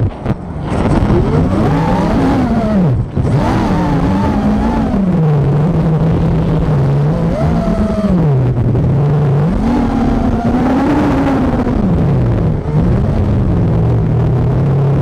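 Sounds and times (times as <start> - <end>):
quadcopter motors whining: 0.8 - 13.7.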